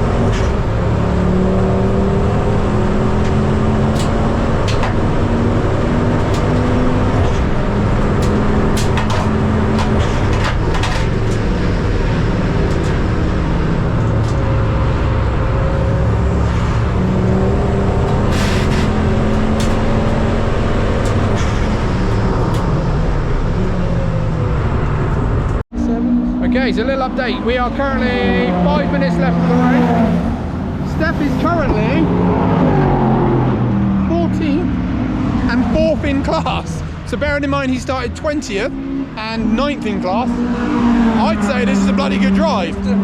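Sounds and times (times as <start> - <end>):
racing car engine running: 0.0 - 43.0.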